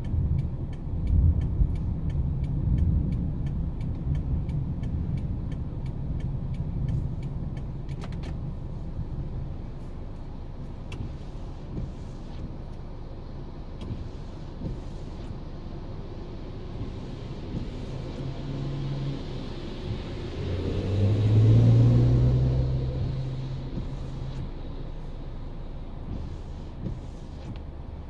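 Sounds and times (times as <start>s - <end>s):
large vehicle engine drone: 0.0s - 28.0s
traffic noise: 0.0s - 28.0s.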